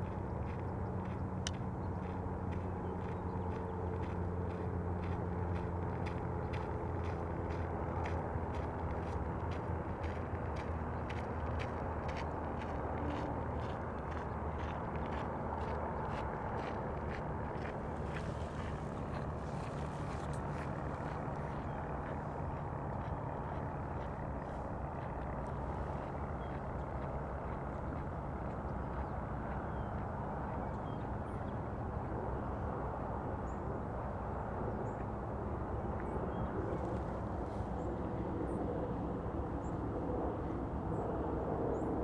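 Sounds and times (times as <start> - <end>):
low engine drone: 0.0 - 41.8.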